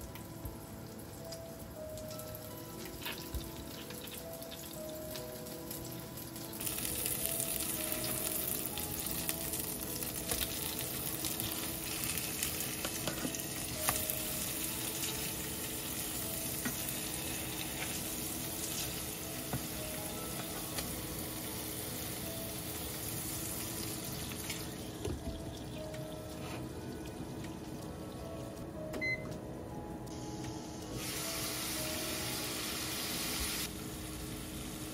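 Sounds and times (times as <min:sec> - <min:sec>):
patties sizzling in frying pan: 0:00.1 - 0:25.0, 0:30.6 - 0:34.9.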